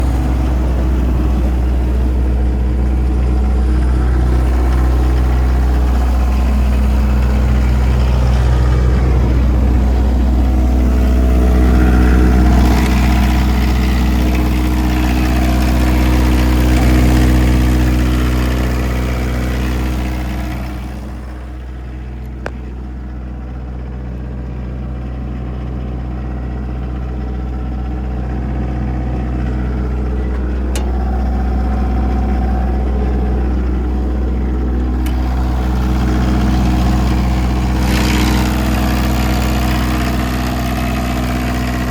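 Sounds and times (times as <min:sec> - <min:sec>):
diesel generator engine droning: 0:00.0 - 0:41.9.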